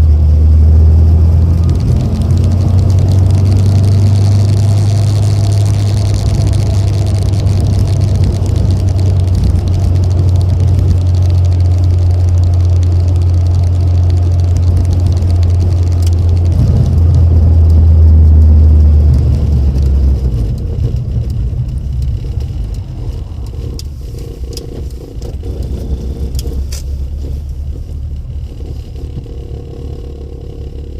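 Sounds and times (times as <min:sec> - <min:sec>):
car engine droning: 0:00.0 - 0:30.9
road noise: 0:00.0 - 0:30.9.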